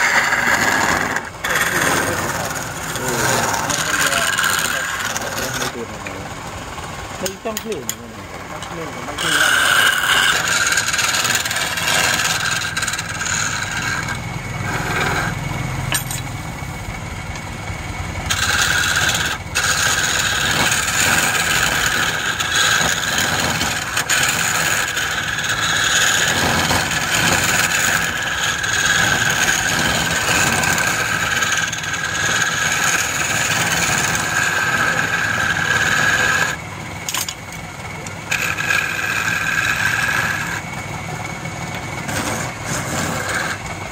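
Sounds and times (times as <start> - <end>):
chisel scraping spinning wood: 0.0 - 43.9
wood lathe motor running: 0.0 - 43.9.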